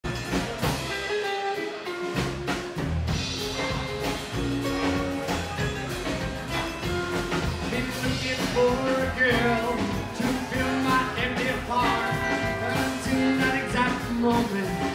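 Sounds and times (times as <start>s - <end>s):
acoustic guitar: 0.0s - 14.9s
drum kit: 0.0s - 14.9s.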